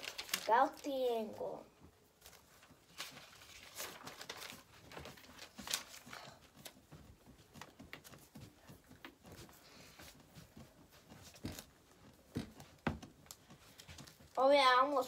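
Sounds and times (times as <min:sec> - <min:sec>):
paper rustling: 0:00.0 - 0:01.5, 0:02.1 - 0:15.0.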